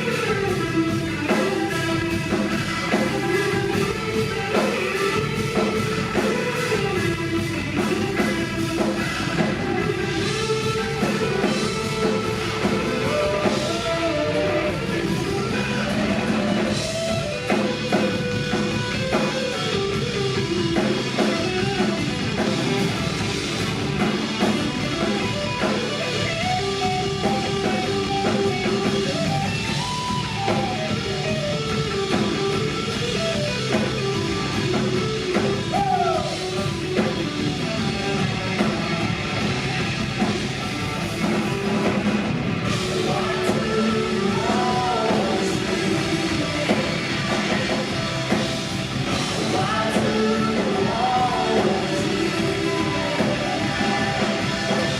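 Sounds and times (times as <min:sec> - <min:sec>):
bending lead guitar notes: 0:00.0 - 0:54.9
drum kit: 0:00.0 - 0:54.9
guitars: 0:00.0 - 0:54.9.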